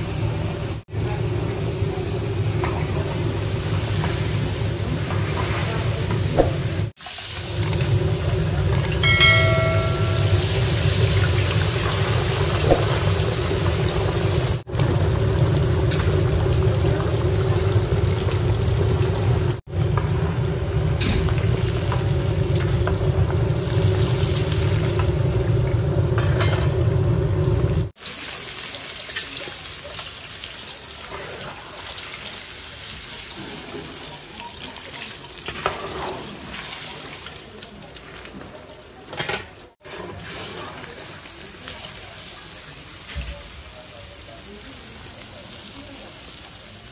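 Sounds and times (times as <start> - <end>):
fish sizzling in hot oil: 6.9 - 26.1, 26.9 - 39.0, 40.0 - 46.9.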